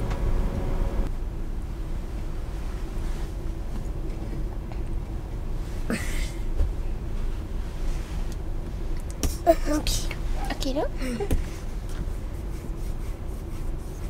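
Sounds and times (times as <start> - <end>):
low rumble: 0.0 - 12.5
faint steady hum: 0.0 - 14.0.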